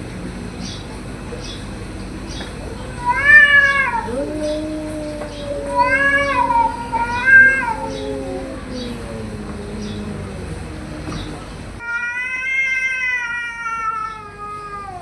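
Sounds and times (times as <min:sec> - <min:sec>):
cats yowling: 0:02.3 - 0:15.0.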